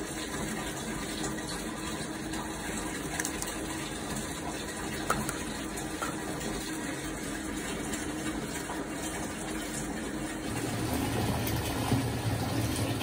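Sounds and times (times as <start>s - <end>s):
bath water running from tap: 0.0s - 13.0s.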